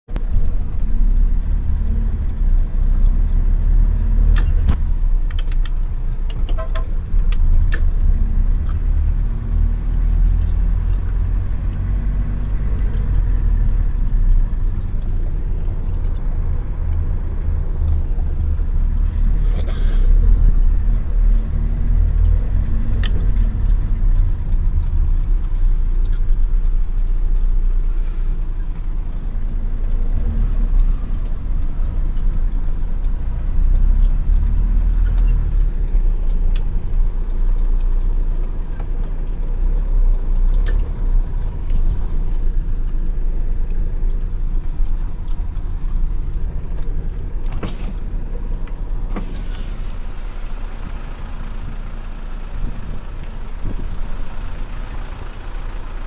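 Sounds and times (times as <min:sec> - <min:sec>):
motor vehicle rumble: 0:00.1 - 0:56.0.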